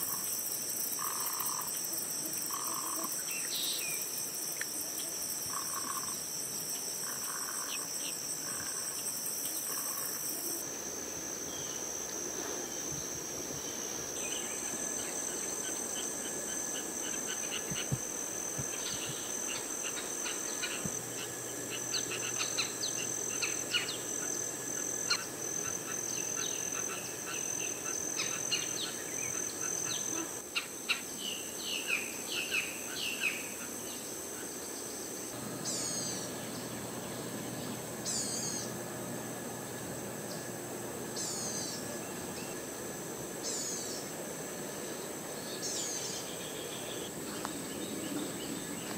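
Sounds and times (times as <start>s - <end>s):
high-pitched insect drone: 0.0s - 44.2s.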